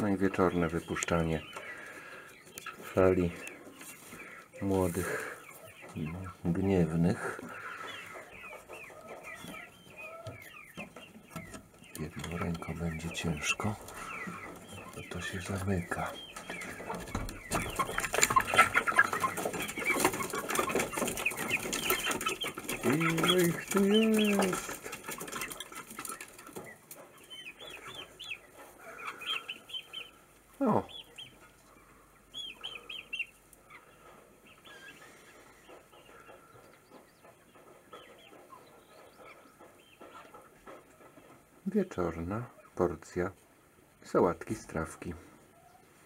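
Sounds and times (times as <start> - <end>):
chicks chirping: 0.0 - 46.0.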